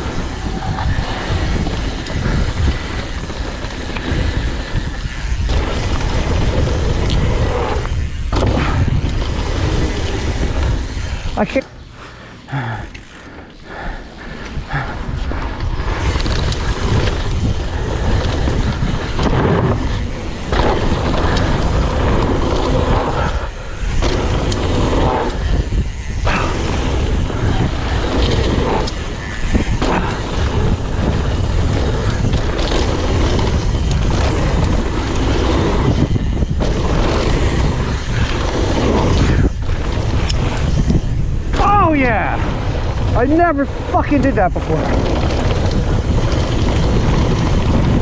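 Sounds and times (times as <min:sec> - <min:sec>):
bike tyres rolling and rattling: 0:00.0 - 0:48.0
wind on microphone: 0:00.0 - 0:48.0.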